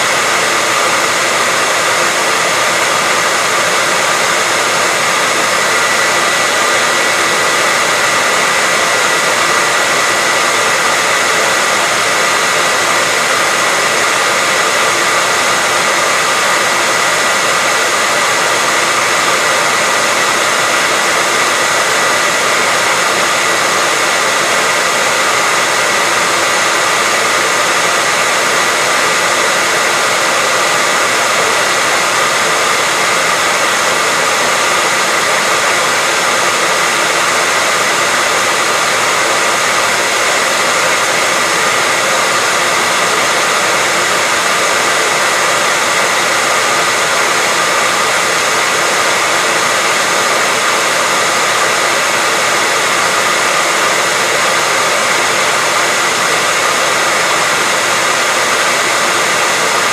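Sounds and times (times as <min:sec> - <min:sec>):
hair dryer blowing: 0:00.0 - 0:59.9
hair dryer motor whine: 0:00.0 - 0:59.9.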